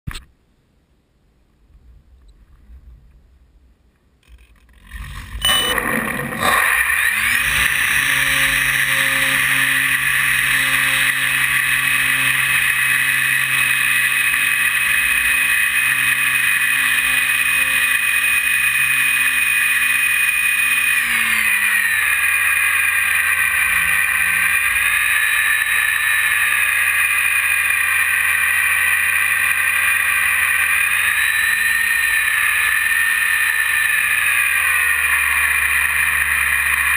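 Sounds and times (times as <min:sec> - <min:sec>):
electric motor whine: 0:04.2 - 0:36.9.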